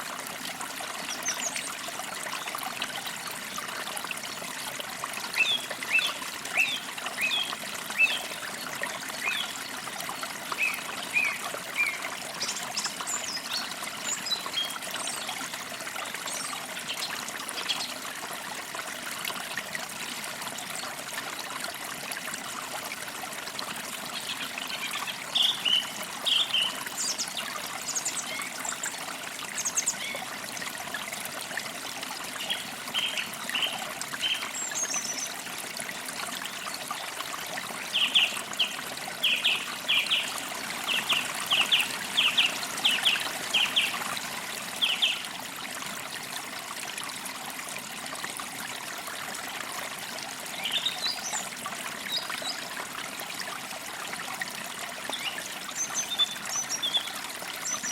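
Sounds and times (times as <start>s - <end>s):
creek water trickling: 0.0s - 57.9s.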